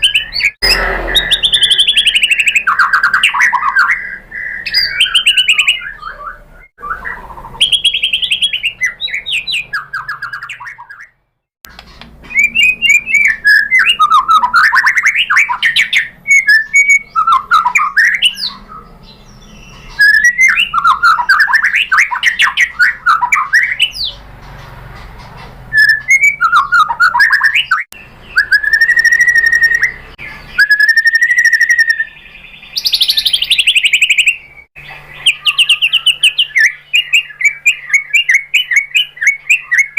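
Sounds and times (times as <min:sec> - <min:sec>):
bird singing whistled phrases: 0:00.0 - 0:11.1, 0:12.3 - 0:24.2, 0:25.7 - 0:39.9.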